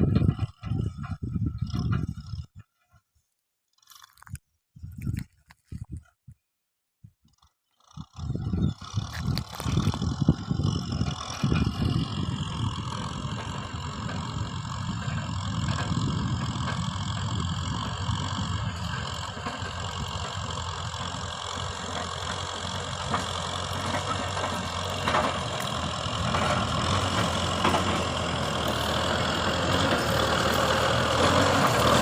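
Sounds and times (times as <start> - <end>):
tractor diesel engine running: 0.0 - 2.9, 7.2 - 32.0.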